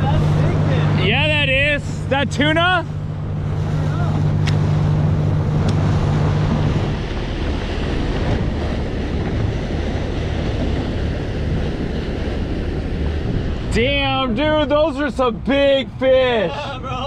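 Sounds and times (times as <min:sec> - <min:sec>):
boat engine humming: 0:00.0 - 0:17.0
water rushing against boat: 0:00.0 - 0:17.0
wind buffeting microphone: 0:00.0 - 0:17.0.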